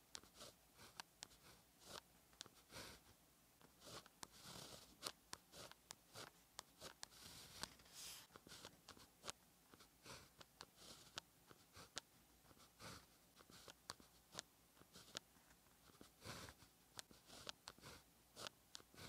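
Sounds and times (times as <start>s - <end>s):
pen scratching on paper: 0.1s - 3.1s, 3.7s - 19.0s.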